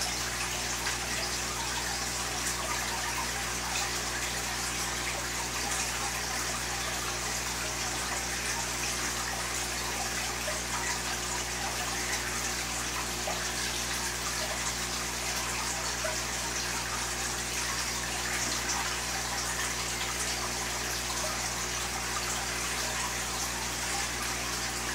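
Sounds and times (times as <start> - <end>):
aquarium filter water trickling: 0.0 - 24.9.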